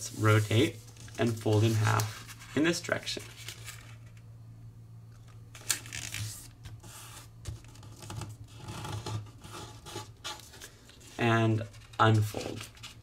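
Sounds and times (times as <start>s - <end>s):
paper rustling and creasing: 0.0s - 4.2s, 5.5s - 13.0s.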